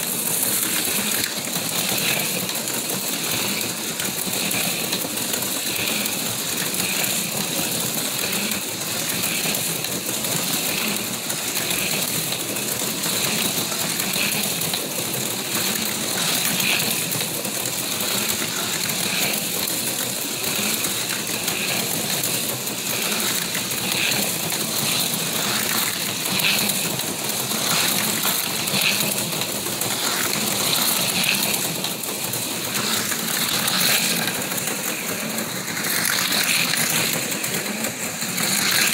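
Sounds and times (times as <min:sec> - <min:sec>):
light mechanical rattle: 0:00.0 - 0:38.9
slot car motors whirring: 0:00.0 - 0:38.9.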